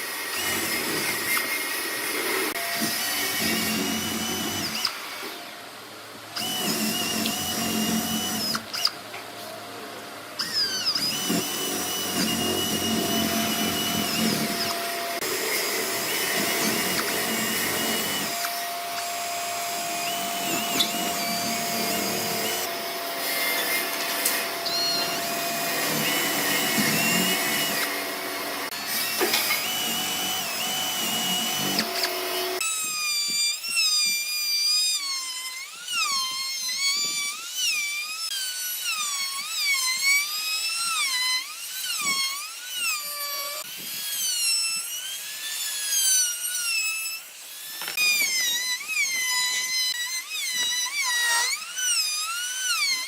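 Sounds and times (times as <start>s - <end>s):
electric power tool motor whine: 0.0s - 53.0s.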